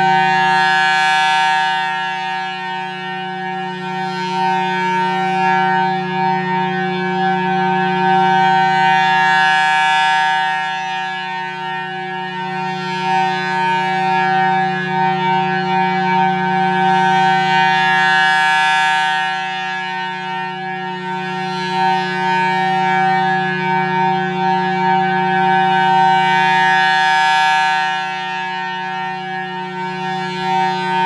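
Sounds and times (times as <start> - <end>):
rotating siren steady tone: 0.0 - 31.0.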